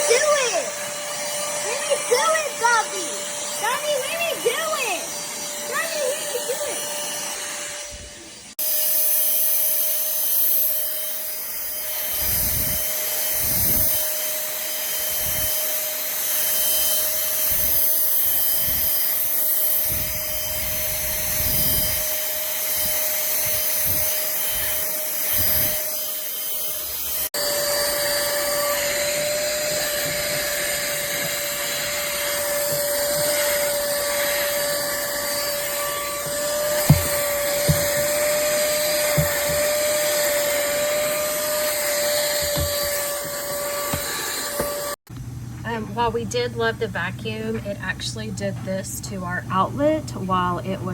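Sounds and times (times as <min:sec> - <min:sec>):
handheld vacuum running: 0:00.0 - 0:45.1.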